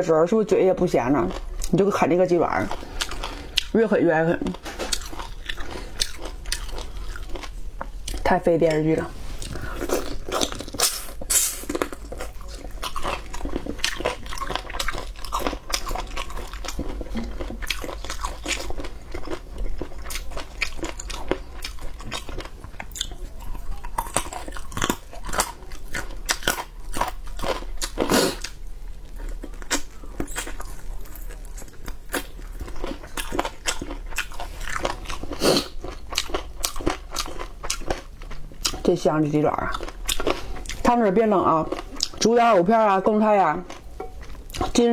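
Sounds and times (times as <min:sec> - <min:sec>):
chewing chicken feet: 0:01.1 - 0:08.3, 0:09.4 - 0:44.9.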